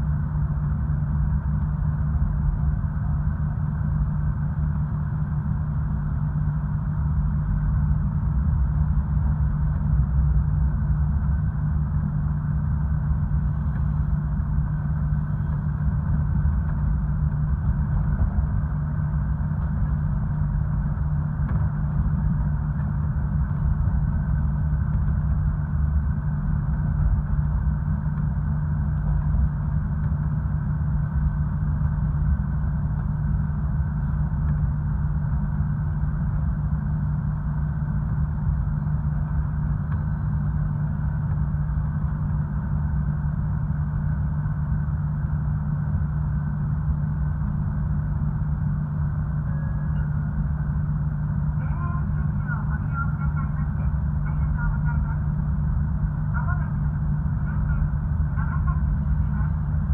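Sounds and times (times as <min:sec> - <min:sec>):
diesel railcar engine rumble: 0:00.0 - 0:59.9.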